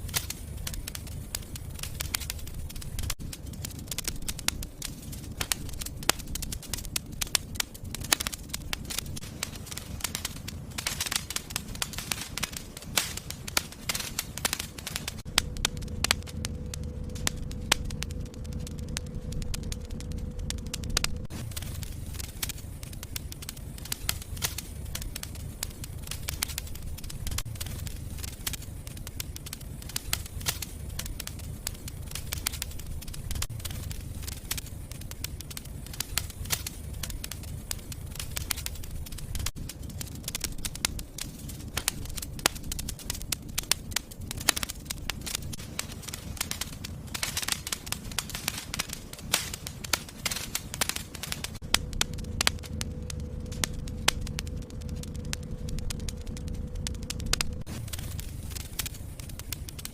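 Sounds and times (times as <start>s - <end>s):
fire crackling and popping: 0.0s - 59.9s
low rumble of fire: 0.0s - 59.9s.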